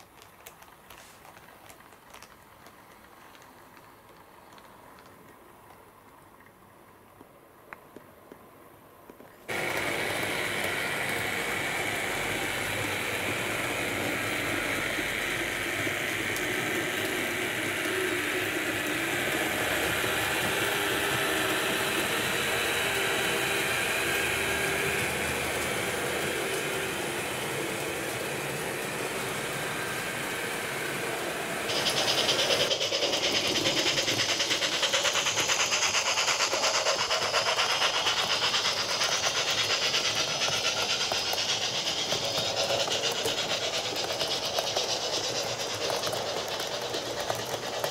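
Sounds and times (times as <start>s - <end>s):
model train running: 0.0s - 5.1s, 9.5s - 47.9s
wheels clicking over rails: 9.5s - 47.9s.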